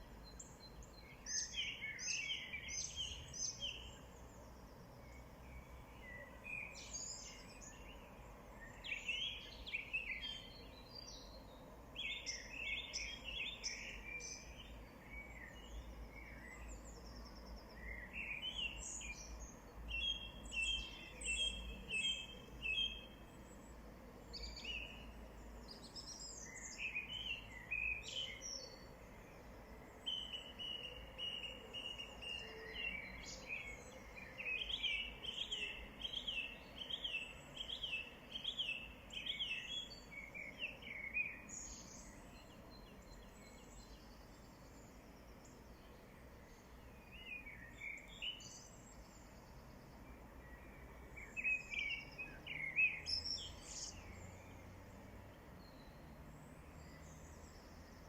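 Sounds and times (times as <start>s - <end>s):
faint outdoor background: 0.0s - 58.0s
wild birds singing: 0.0s - 58.0s.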